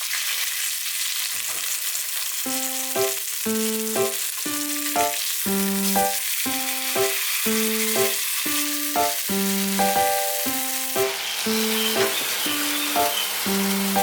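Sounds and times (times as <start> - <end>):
food sizzling in a pan: 0.0 - 14.0
plucked background music: 2.5 - 14.0.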